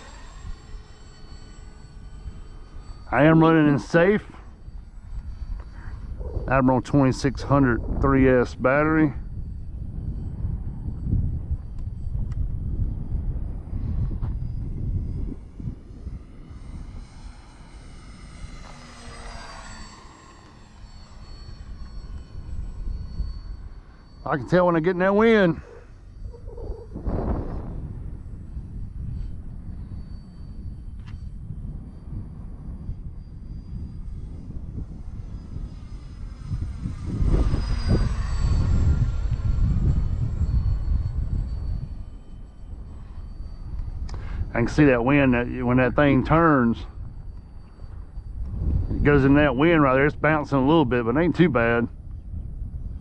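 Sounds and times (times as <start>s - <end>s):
model airplane motor whine: 0.0s - 53.0s
wind rumbling on microphone: 0.0s - 53.0s.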